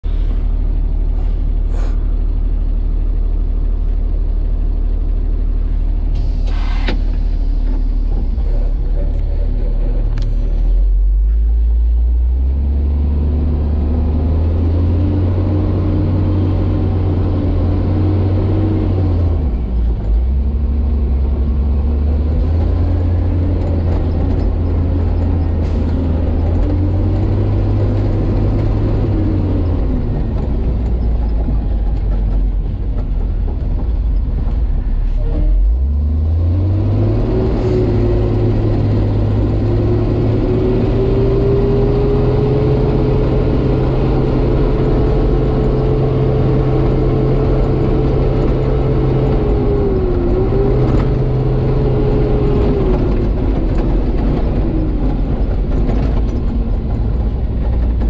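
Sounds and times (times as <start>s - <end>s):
diesel locomotive engine revving: 0.0s - 58.0s.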